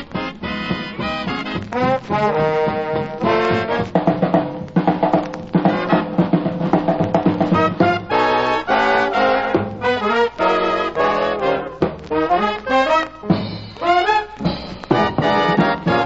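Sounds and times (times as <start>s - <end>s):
brass swing band music: 0.0s - 16.0s.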